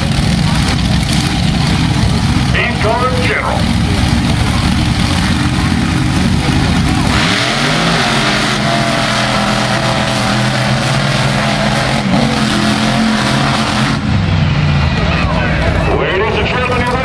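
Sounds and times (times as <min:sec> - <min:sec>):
monster truck engines revving: 0:00.0 - 0:17.0.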